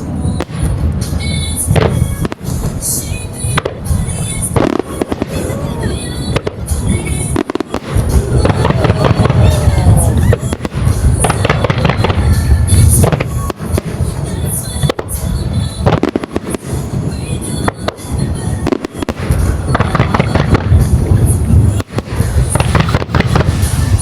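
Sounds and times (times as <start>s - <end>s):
low rumble: 0.0s - 14.5s, 19.2s - 24.0s
fireworks booms and cracks: 0.0s - 24.0s.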